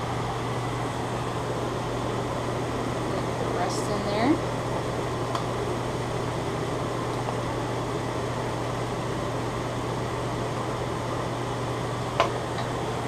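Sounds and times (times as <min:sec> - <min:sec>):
kitchen hum and hiss: 0:00.0 - 0:13.0.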